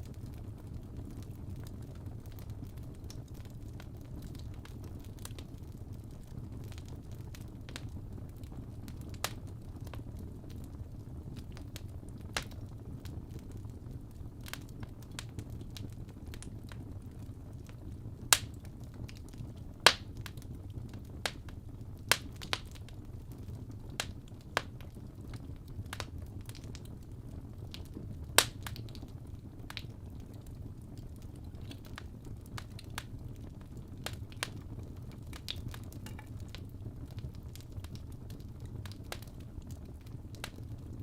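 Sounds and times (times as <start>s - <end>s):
logs crackling and popping: 0.0s - 41.0s
low rumble of flames: 0.0s - 41.0s.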